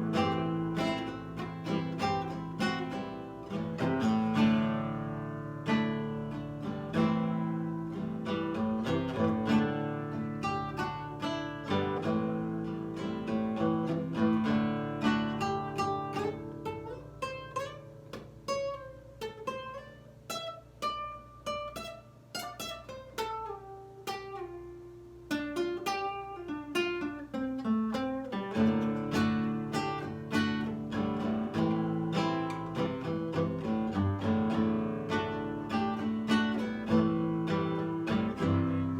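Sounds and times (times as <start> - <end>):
fingerstyle nylon-string guitar: 0.0 - 38.9.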